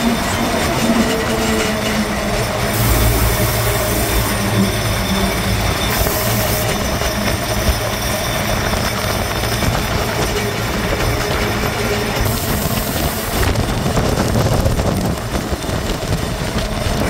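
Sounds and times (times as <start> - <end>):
metal wagon rattling: 0.0 - 17.0.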